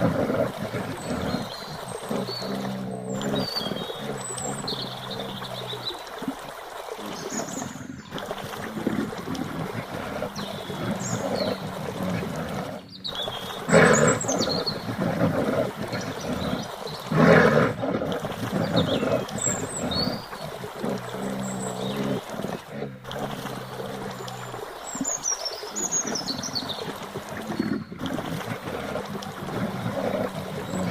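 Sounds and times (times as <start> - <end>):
loud wild animal calls: 0.0 - 30.9.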